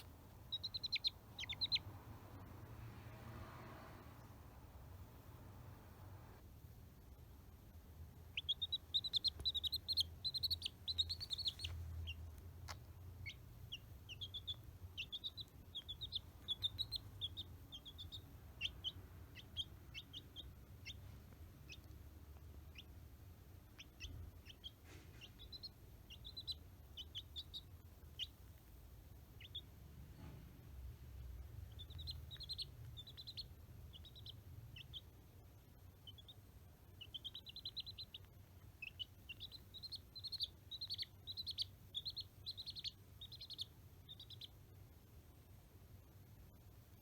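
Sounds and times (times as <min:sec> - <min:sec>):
chick peeping: 0:00.0 - 0:06.4, 0:08.2 - 0:45.4.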